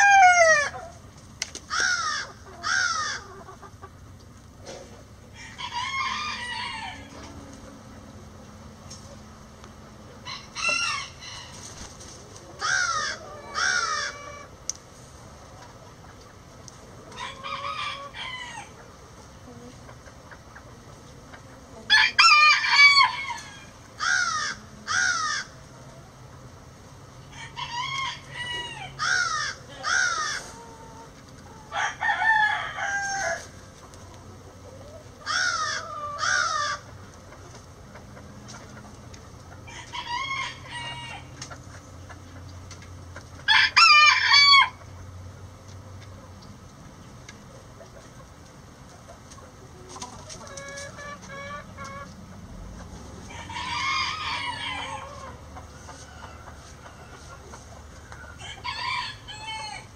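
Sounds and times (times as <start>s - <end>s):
roosters crowing: 0.0s - 1.1s, 1.7s - 4.0s, 5.0s - 8.8s, 9.8s - 16.2s, 16.8s - 42.4s, 43.0s - 45.6s, 49.6s - 59.9s.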